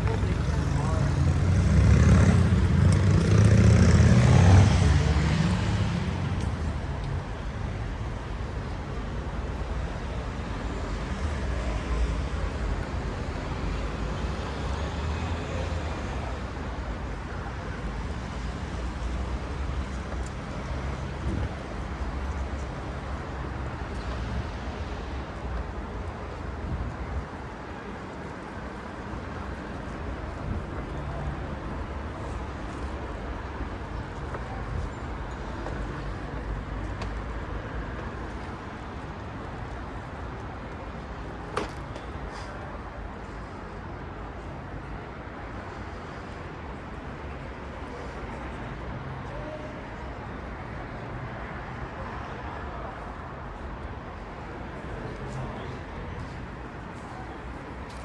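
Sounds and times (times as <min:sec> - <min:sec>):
low city rumble: 0:00.0 - 0:58.0.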